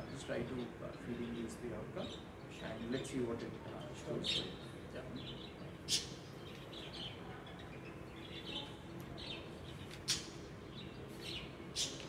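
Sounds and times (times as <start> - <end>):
low background hum: 0.0 - 12.0
small birds chirping: 0.0 - 12.0.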